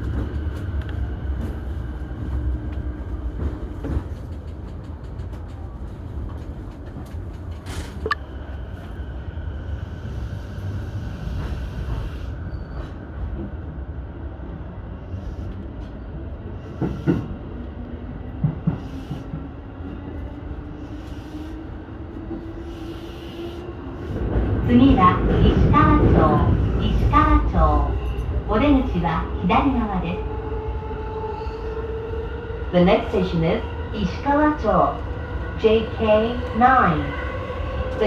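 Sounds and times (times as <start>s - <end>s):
wheels rumbling on rail: 0.0s - 13.9s, 15.5s - 38.0s.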